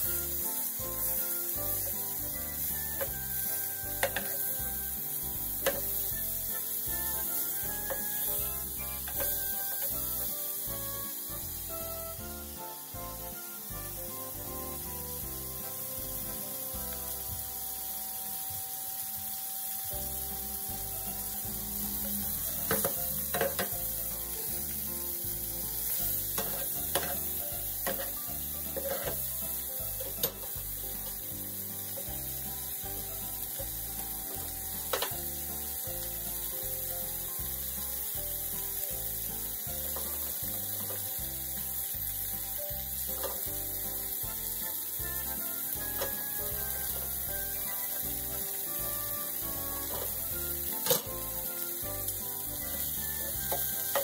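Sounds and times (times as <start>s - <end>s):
steak sizzling in a pan: 0.0s - 54.0s.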